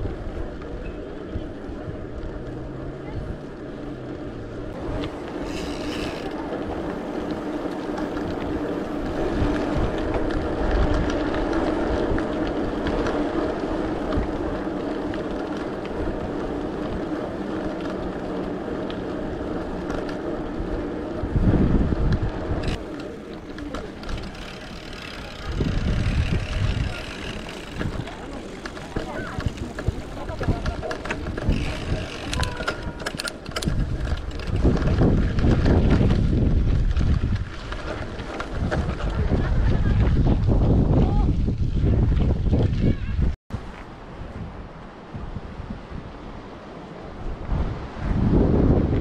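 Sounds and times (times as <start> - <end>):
bicycle tyre hum: 0.0 - 49.0
low wind buffeting rumbles: 0.0 - 49.0
wind on microphone: 4.7 - 17.6, 19.2 - 49.0.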